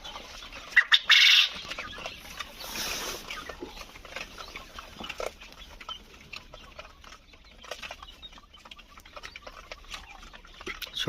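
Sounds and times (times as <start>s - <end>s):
quail calls and chirps: 0.0s - 11.0s.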